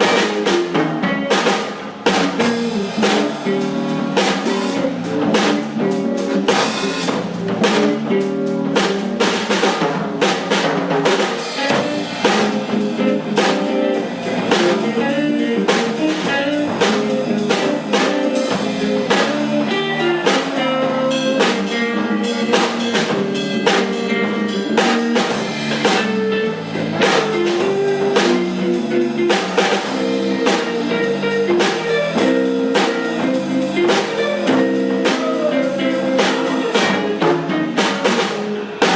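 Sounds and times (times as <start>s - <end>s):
band playing a song: 0.0s - 38.9s
busy drum beat: 0.0s - 38.9s.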